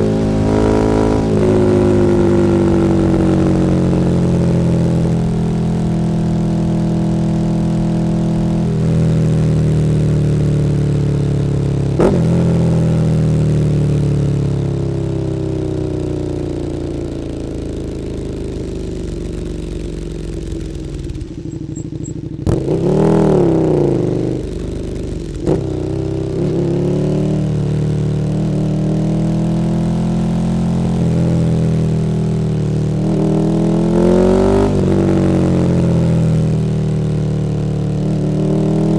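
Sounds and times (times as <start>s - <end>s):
motorcycle engine revving: 0.0s - 38.9s
motorcycle engine running: 0.0s - 38.9s.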